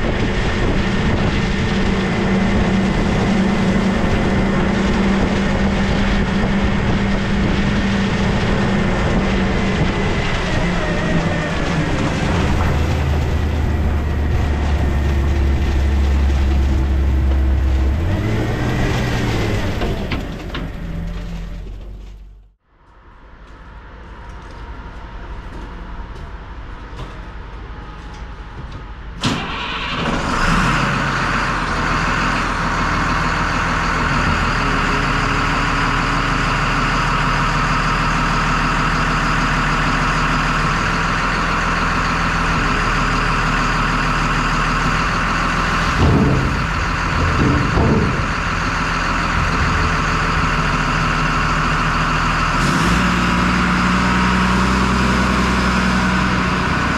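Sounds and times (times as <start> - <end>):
plow truck engine running: 0.0 - 22.6, 25.0 - 56.9.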